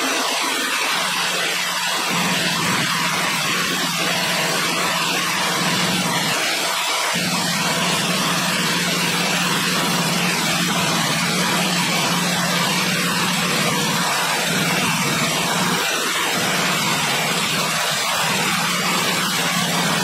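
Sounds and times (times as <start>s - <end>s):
loud noisy rush: 0.0s - 20.0s.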